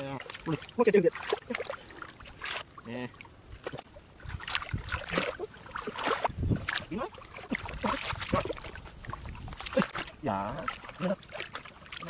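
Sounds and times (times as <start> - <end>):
hands sloshing in muddy water: 0.0 - 12.0.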